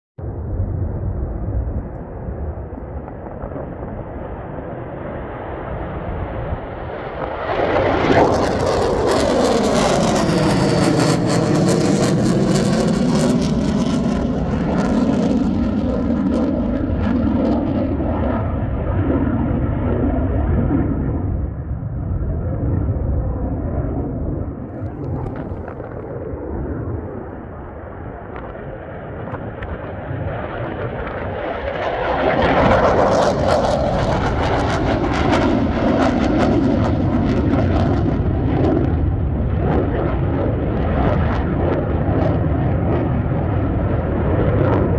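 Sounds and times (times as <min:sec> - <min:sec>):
distant fighter jet engine: 0:00.2 - 0:44.9.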